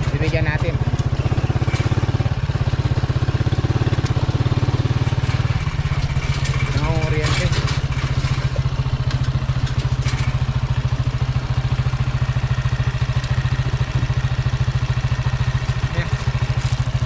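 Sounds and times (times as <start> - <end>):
small motorcycle engine idling: 0.0 - 17.0.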